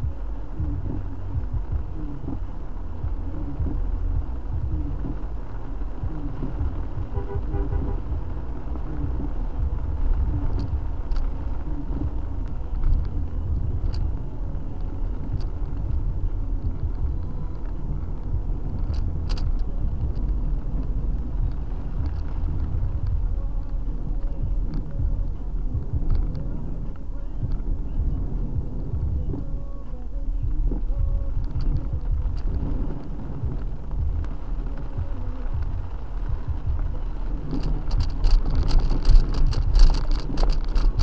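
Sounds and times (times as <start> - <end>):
car engine and tyres on wet road: 0.0 - 41.0
heavy rain: 0.0 - 41.0
light ticks: 0.0 - 41.0.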